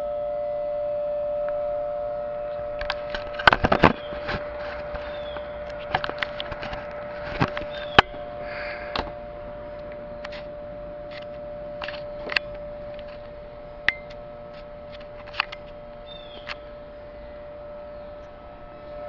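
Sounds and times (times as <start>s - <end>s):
air-raid siren through speaker: 0.0s - 19.0s.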